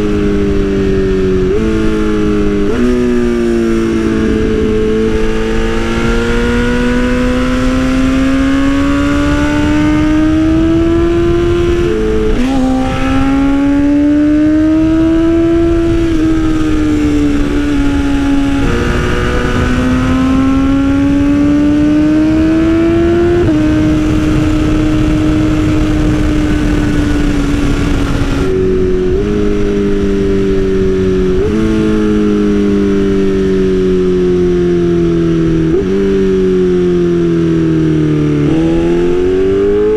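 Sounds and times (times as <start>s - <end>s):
wind noise: 0.0s - 37.7s
motorcycle engine revving: 0.0s - 39.9s.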